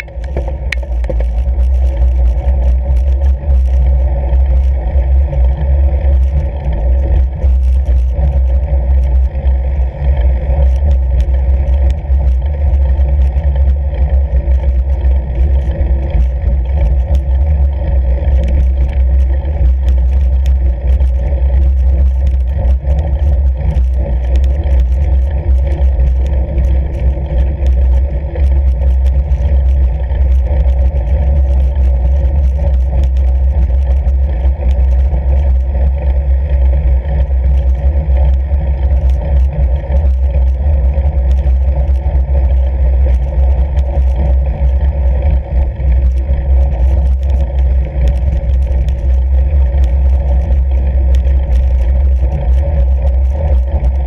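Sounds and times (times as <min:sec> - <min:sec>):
bike tyres rolling on snow: 0:00.0 - 0:54.0
faint crackling ticks: 0:00.0 - 0:54.0.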